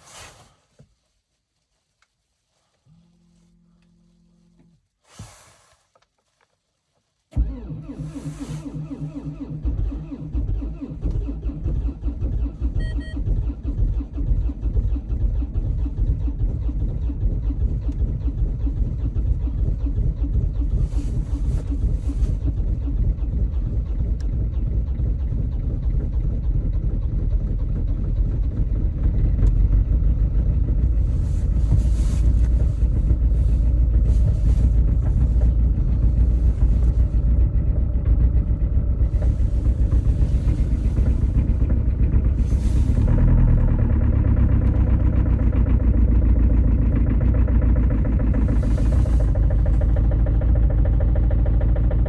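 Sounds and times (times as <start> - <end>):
car engine running: 7.4 - 52.0.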